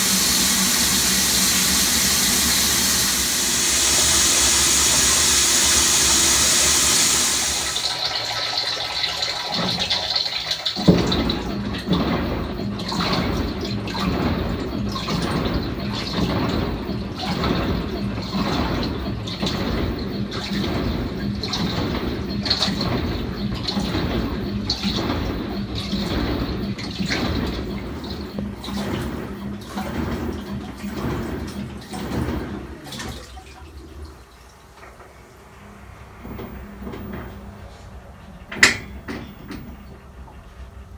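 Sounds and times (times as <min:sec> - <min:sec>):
water pouring into washer tub: 0:00.0 - 0:37.7
washer agitation sloshing water: 0:00.0 - 0:40.9.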